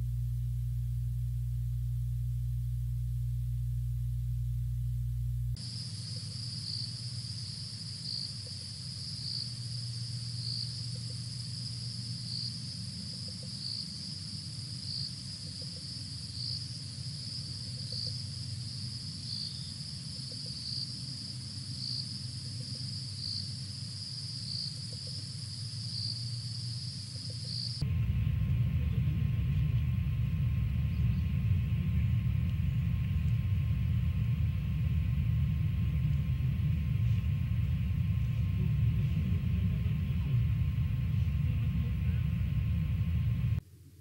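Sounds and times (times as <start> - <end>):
low hum: 0.0 - 44.0
crickets trilling: 5.6 - 43.6.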